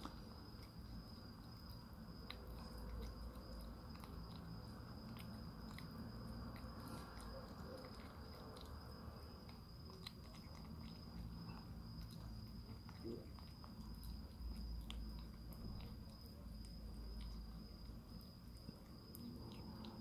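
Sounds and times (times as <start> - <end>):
cat chewing wet food: 0.0 - 20.0.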